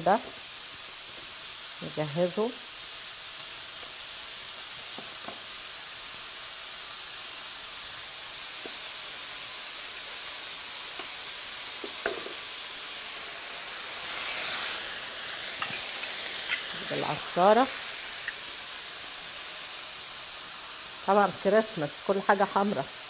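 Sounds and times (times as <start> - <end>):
fish and mushrooms sizzling: 0.0 - 23.0.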